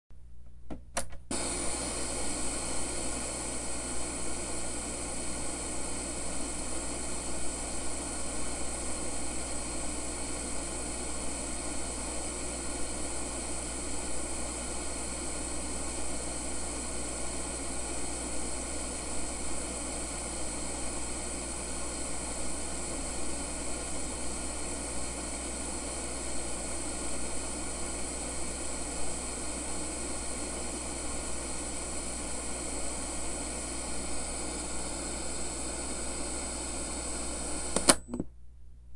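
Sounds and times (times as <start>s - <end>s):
radio static hiss: 1.3s - 38.2s.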